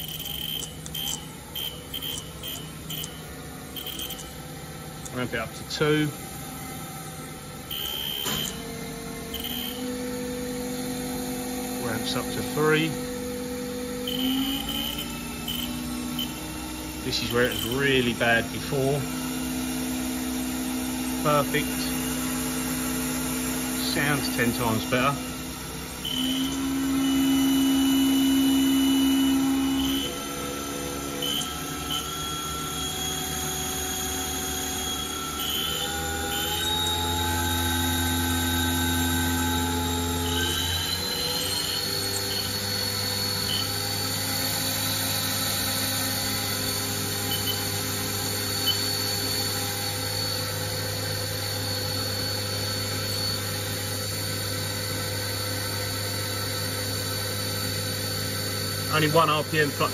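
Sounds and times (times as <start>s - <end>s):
mill spindle whine: 0.0s - 59.9s.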